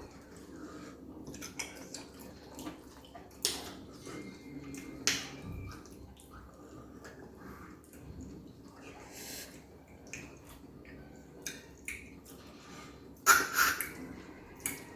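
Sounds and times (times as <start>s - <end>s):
mouths eating wet smacking: 0.0s - 14.9s.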